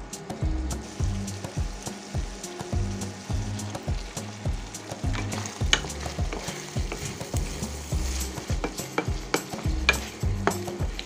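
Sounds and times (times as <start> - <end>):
food sizzling in a pan: 0.0 - 11.0
spatula scraping a pan: 0.8 - 11.0.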